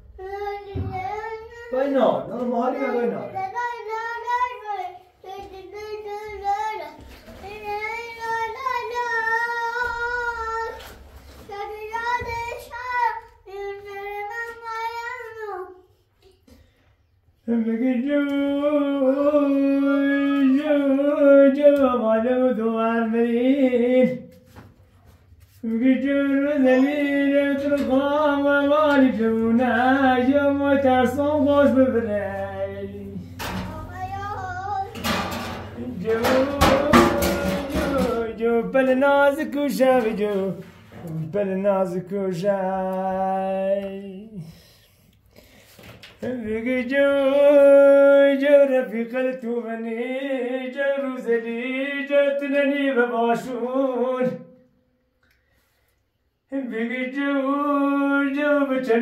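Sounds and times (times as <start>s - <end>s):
person singing unaccompanied: 2.5s - 15.1s, 17.4s - 24.4s, 25.6s - 44.6s, 46.2s - 54.5s, 56.5s - 59.0s.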